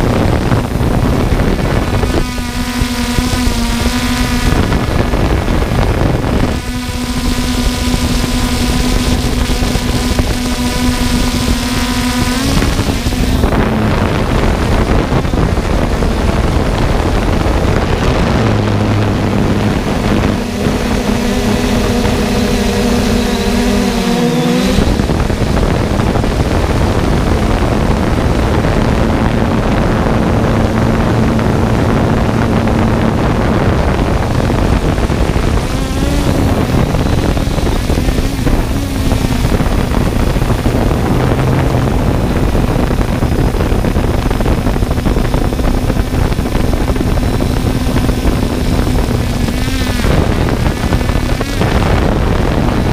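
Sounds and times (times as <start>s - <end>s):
drone propellers humming: 0.0s - 52.9s.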